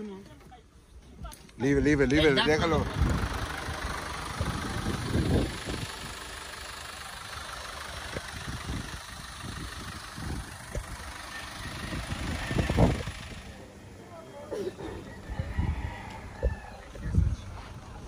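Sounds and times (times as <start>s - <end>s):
vehicle engine idling: 1.6s - 18.0s.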